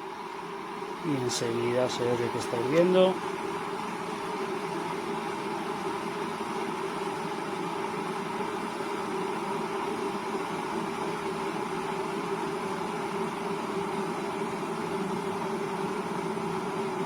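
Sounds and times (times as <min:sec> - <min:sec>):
water boiling in electric kettle: 0:00.0 - 0:17.0.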